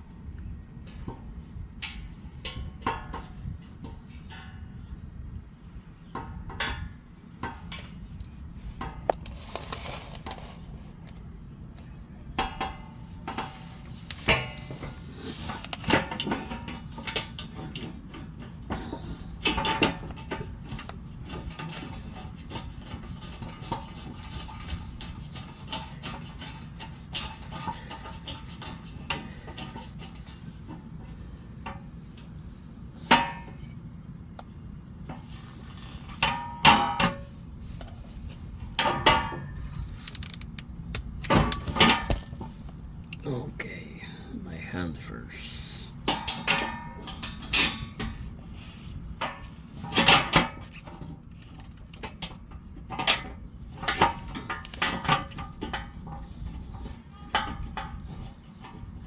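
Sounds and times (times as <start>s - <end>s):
low steady hum: 0.0s - 59.0s
metal clanks and scrapes: 0.8s - 11.3s, 11.9s - 44.2s, 45.9s - 59.0s.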